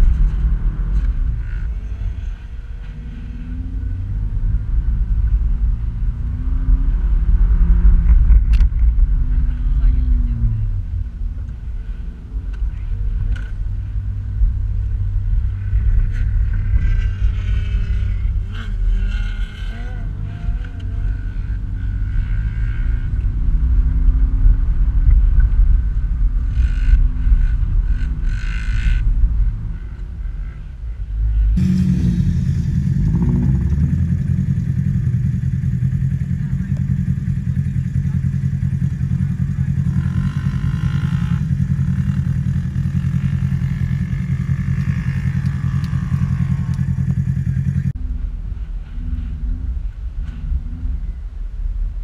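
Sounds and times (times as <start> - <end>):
car engine rumbling in sand: 0.0 - 52.0.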